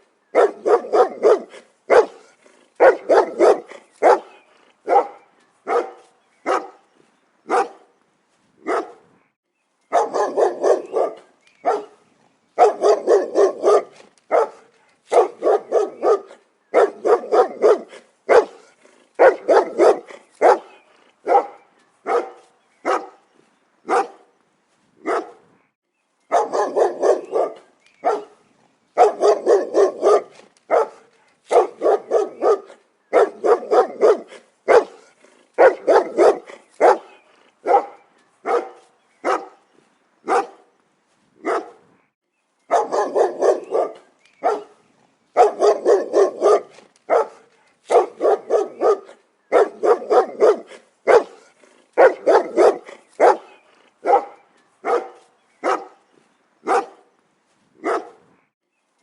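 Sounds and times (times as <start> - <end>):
dog barking: 0.3 - 6.8, 7.5 - 7.9, 8.6 - 9.1, 9.9 - 12.0, 12.6 - 23.2, 23.9 - 24.3, 25.0 - 25.4, 26.3 - 28.4, 29.0 - 39.6, 40.2 - 40.7, 41.4 - 41.8, 42.7 - 44.8, 45.4 - 56.0, 56.6 - 57.1, 57.8 - 58.3.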